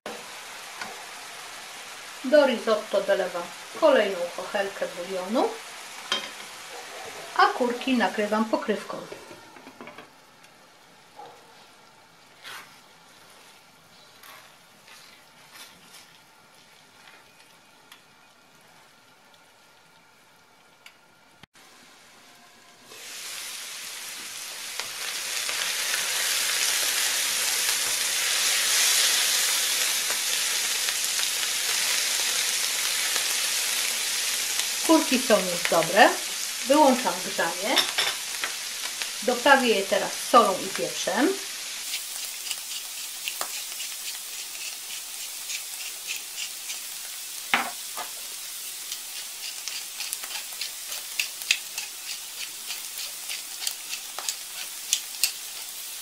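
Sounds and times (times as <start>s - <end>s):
mushrooms sizzling in oil: 0.0s - 56.0s
pan simmering under a lid: 7.3s - 56.0s.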